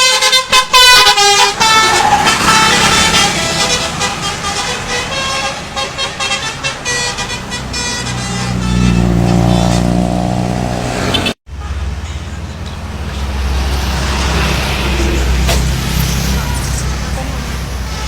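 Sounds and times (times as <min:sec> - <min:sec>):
bus multi-tone horn: 0:00.0 - 0:13.4, 0:14.3 - 0:18.0
diesel bus engine running: 0:00.0 - 0:18.0.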